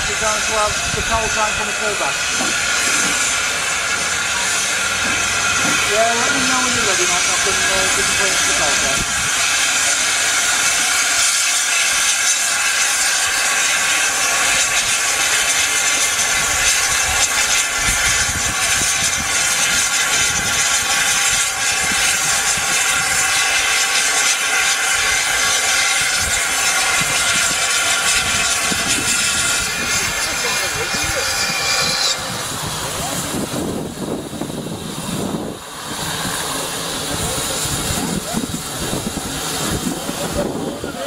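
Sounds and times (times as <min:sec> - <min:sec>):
steam hissing from locomotive: 0:00.0 - 0:41.0.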